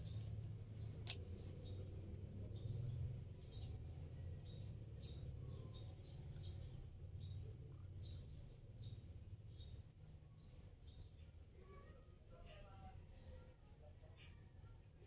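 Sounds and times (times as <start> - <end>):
small bird chirping: 0.0 - 14.8
faint low hum: 0.0 - 15.0.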